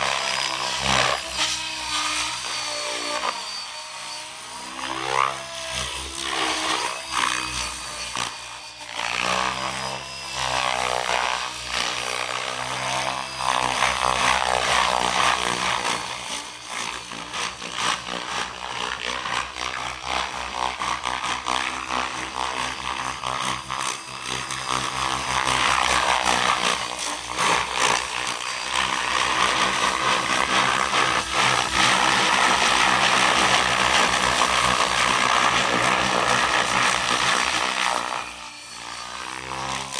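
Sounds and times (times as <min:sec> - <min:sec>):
rc helicopter rotor and motor whine: 0:00.0 - 0:39.9.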